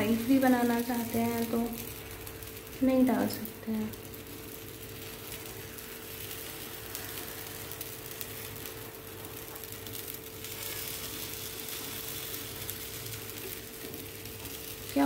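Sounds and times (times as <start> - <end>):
batter sizzling in a pan: 0.0 - 15.0.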